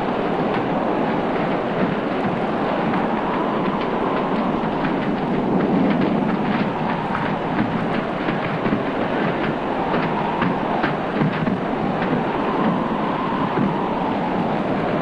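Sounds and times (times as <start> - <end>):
heavy seas: 0.0 - 15.0
storm wind: 0.0 - 15.0.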